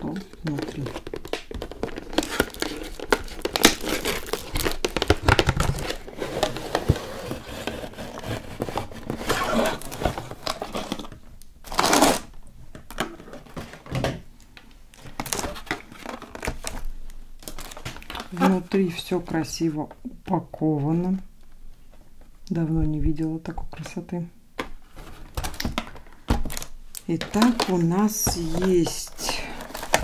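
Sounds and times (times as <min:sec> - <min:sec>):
packaging rustling: 0:00.0 - 0:14.1, 0:14.9 - 0:19.5, 0:24.6 - 0:30.0.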